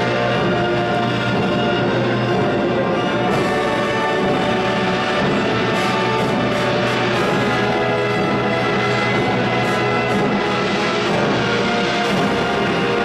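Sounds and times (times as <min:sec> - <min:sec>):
symphony orchestra playing loudly: 0:00.0 - 0:13.0.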